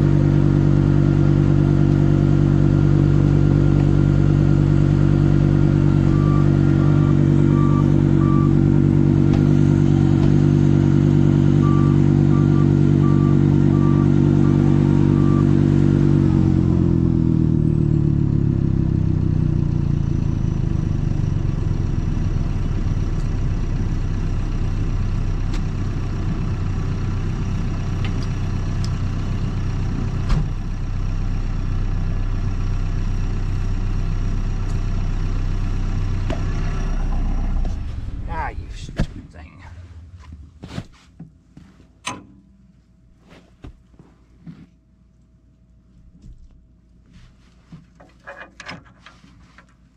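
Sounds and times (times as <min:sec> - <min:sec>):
tractor engine running: 0:00.0 - 0:42.8.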